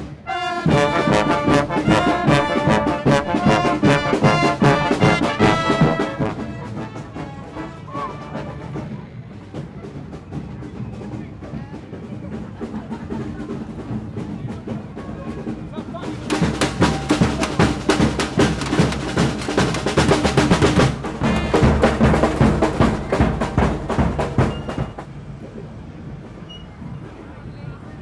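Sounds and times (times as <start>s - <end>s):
marching drums playing: 0.0s - 25.2s
crowd noise: 0.0s - 28.0s.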